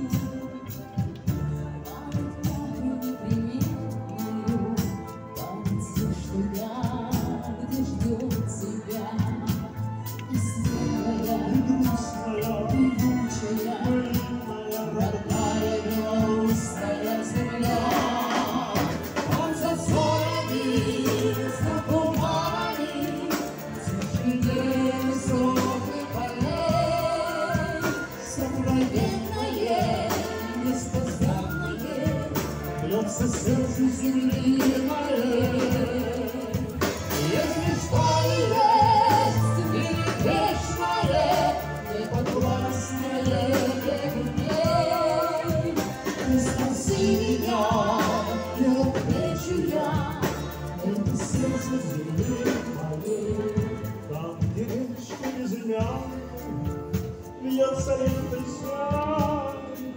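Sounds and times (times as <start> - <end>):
person singing with vibrato: 0.0 - 59.9
song with sung melody: 0.0 - 59.9
brass band playing dance music: 8.7 - 59.9.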